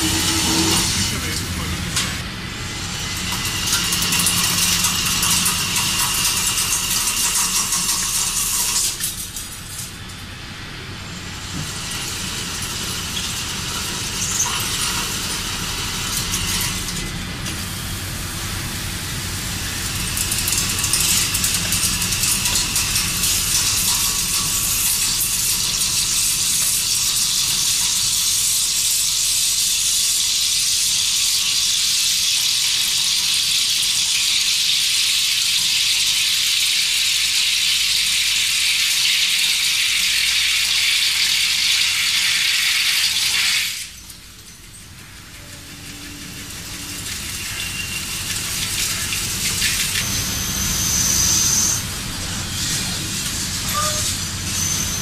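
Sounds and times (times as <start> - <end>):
heavy machinery hissing and crackling: 0.0 - 55.0.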